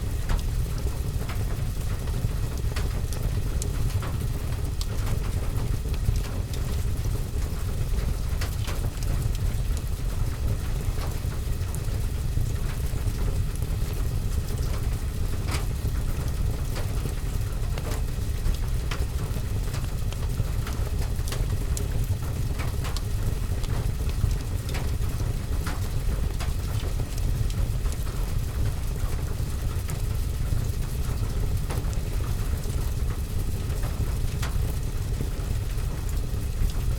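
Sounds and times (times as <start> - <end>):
rain on roof and window: 0.0 - 36.9.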